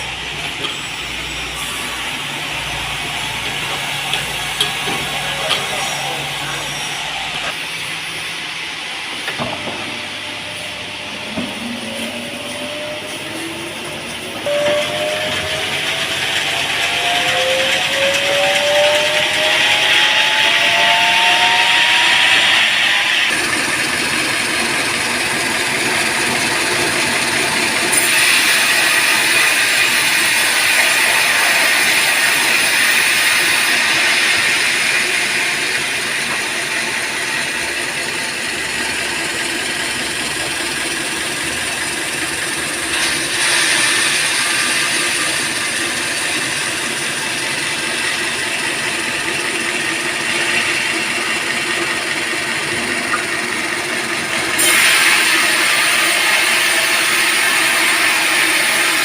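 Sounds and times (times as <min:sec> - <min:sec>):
band sawmill running: 0:00.0 - 0:59.0.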